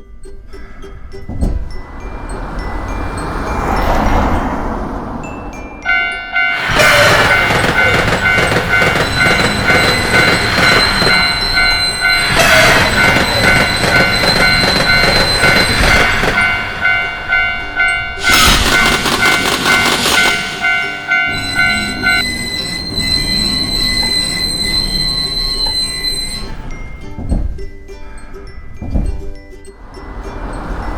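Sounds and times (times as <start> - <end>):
level-crossing warning bell: 0.9 - 27.6, 29.6 - 30.9
train wheels clattering: 1.2 - 27.6.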